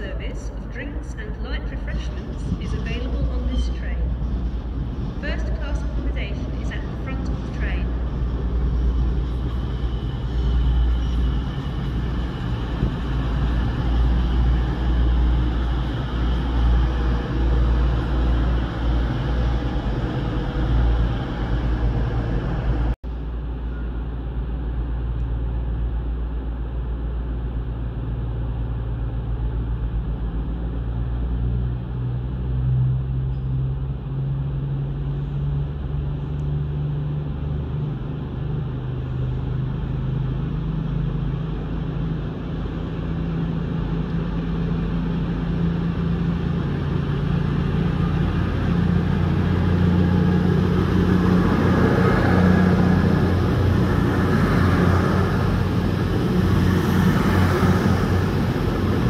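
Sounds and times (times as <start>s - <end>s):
diesel train passing: 0.0s - 59.0s
train wheel noise: 0.0s - 59.0s.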